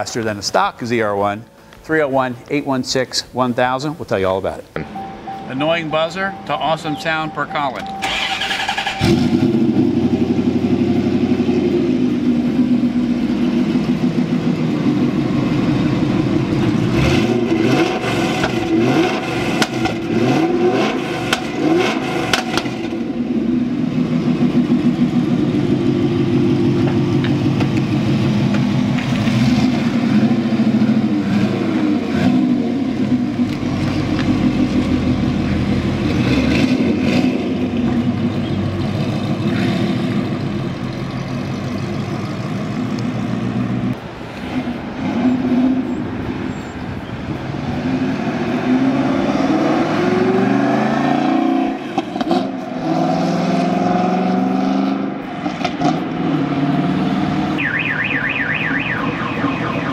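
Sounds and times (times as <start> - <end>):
car engine idling and revving: 4.6 - 59.9.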